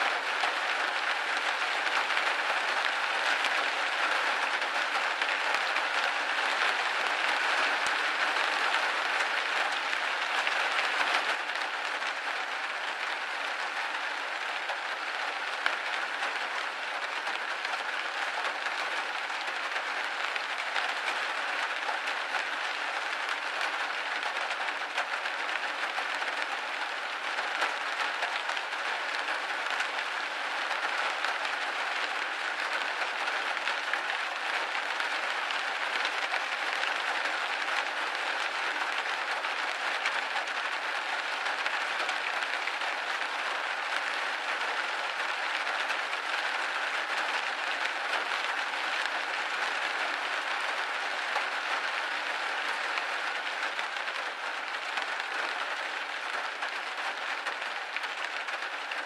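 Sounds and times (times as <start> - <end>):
rain drumming on a window: 0.0 - 59.0.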